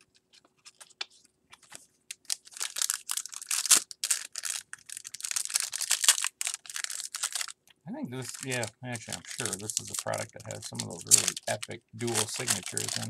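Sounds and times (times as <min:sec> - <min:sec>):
wrapper crinkling and tearing: 0:00.0 - 0:07.6, 0:08.2 - 0:13.0.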